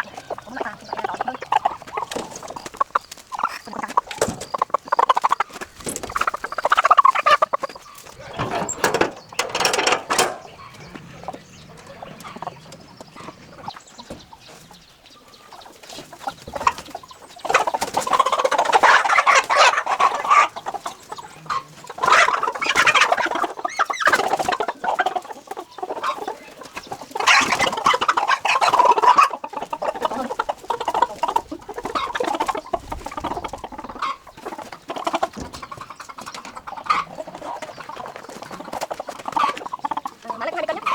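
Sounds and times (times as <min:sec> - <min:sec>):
chickens clucking and squawking: 0:00.0 - 0:40.9.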